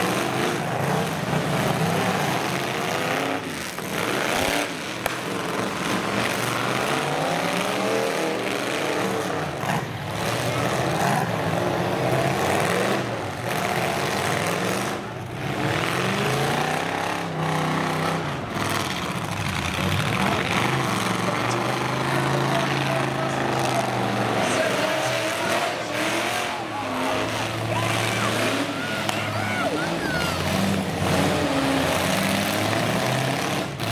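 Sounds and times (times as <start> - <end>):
truck engines revving hard: 0.0 - 33.9.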